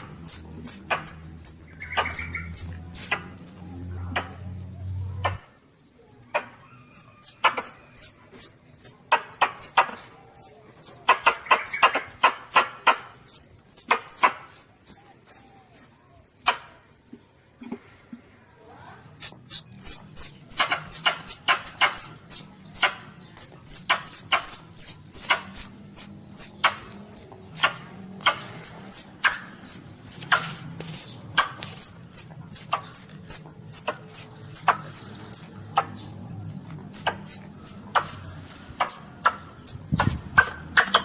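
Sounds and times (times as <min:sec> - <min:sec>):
baby civet squeaky chirps: 0:00.0 - 0:03.4, 0:06.3 - 0:15.9, 0:19.2 - 0:36.0, 0:36.8 - 0:41.0.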